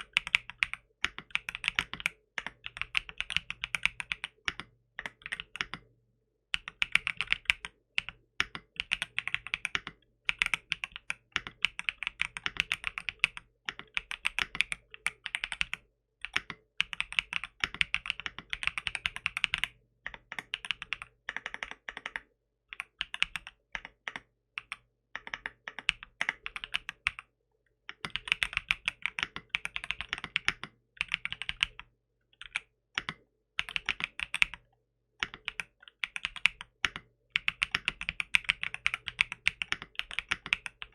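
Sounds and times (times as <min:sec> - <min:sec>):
mechanical keyboard typing: 0:00.0 - 0:27.3, 0:27.9 - 0:40.9.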